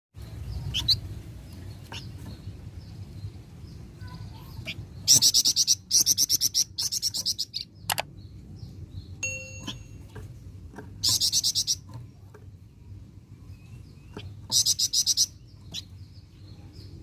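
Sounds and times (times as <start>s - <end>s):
low steady hum: 0.2s - 17.0s
songbird singing: 0.2s - 17.0s.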